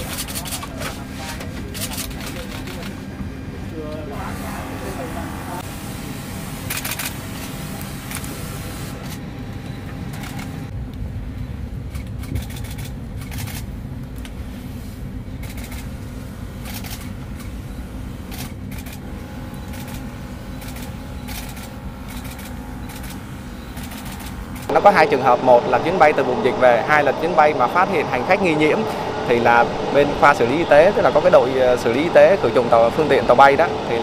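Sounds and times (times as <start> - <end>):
low cabin rumble: 6.5 - 34.0.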